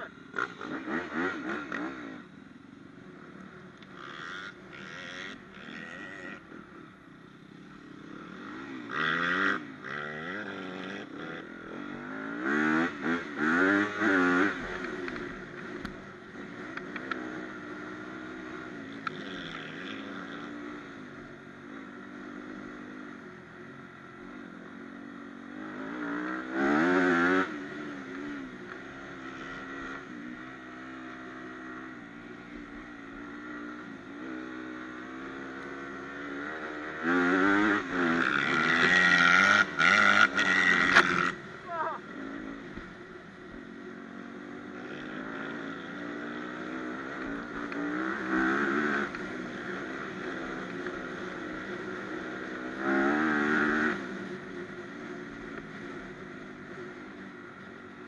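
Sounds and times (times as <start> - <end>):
dirt bike engine revving: 0.0 - 2.4, 3.2 - 6.8, 7.4 - 23.2, 24.2 - 56.1.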